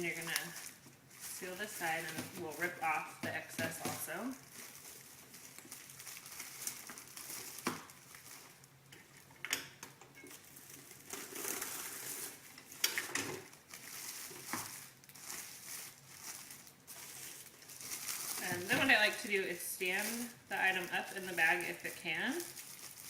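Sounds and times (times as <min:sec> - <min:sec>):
plastic film crinkling: 0:00.0 - 0:09.4, 0:10.3 - 0:23.0.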